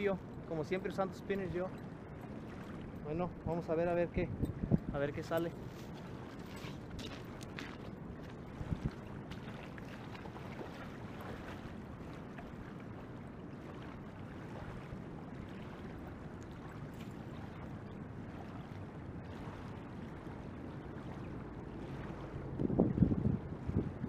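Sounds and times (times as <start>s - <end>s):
flowing river water: 0.0s - 24.0s
wind on microphone: 0.0s - 24.0s.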